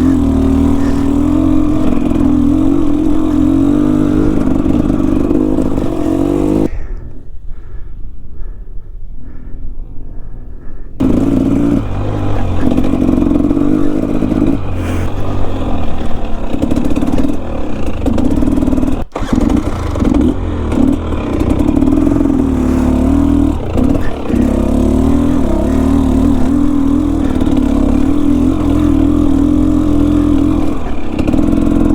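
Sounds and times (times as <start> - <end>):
dirt bike engine running: 0.0 - 6.7, 11.0 - 31.9.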